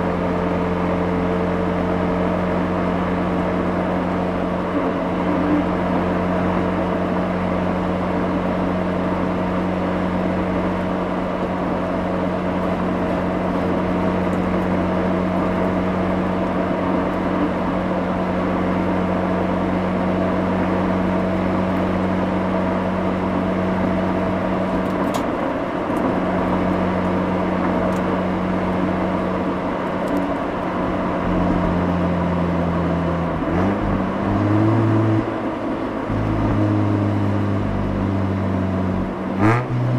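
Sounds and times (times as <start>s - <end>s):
road and wind rush: 0.0s - 39.9s
rotary engine exhaust: 0.0s - 39.9s.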